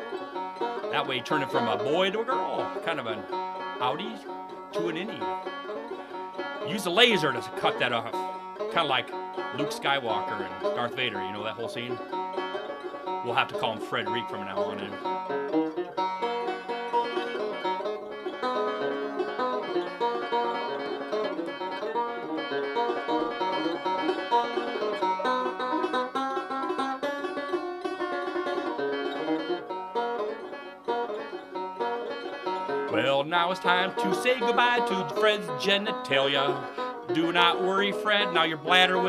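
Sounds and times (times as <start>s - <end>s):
banjo rolling picked notes: 0.0s - 39.0s.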